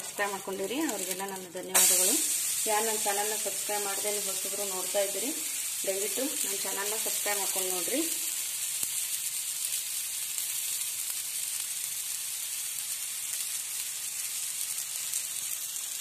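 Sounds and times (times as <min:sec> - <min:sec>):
oil sizzling on griddle: 0:00.0 - 0:16.0.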